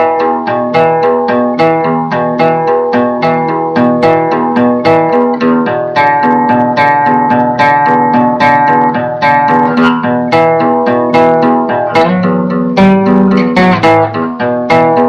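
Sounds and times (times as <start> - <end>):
guitar plucked notes: 0.0 - 15.0.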